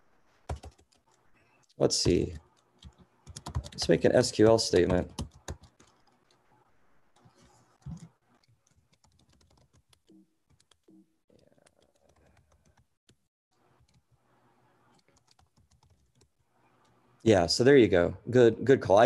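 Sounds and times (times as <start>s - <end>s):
faint keyboard typing: 0.4s - 17.2s.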